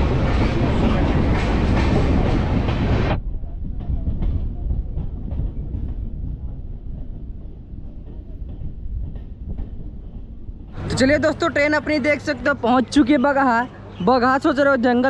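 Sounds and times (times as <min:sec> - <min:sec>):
train wheels rushing: 0:00.0 - 0:13.4.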